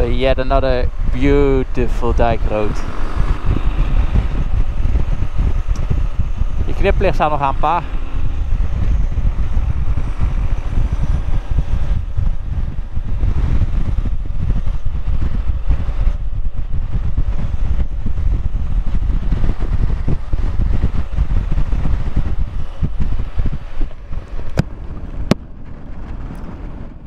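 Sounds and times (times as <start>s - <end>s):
motorcycle engine running: 0.0s - 27.0s
wind rumble on microphone: 0.0s - 27.0s.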